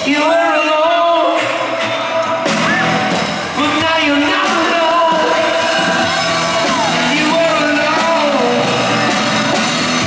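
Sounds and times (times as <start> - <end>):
person singing: 0.0 - 9.6
rock band playing live: 0.0 - 10.0.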